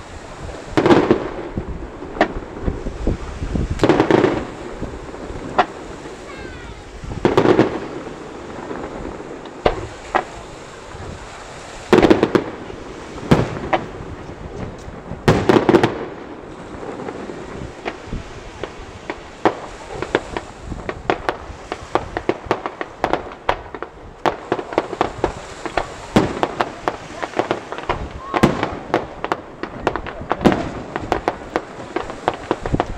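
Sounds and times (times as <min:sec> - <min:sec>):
firework crackling pops: 0:00.0 - 0:32.9.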